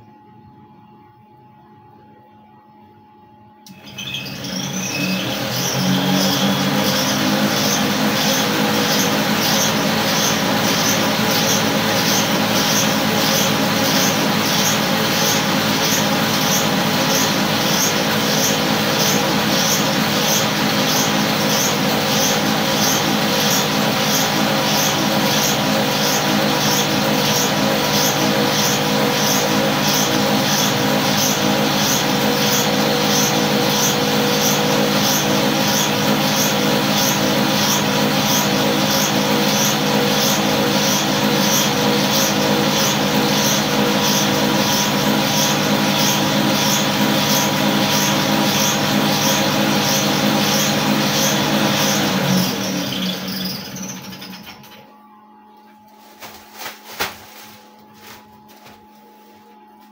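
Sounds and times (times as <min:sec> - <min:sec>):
cotton candy machine whining: 0:03.6 - 0:59.9.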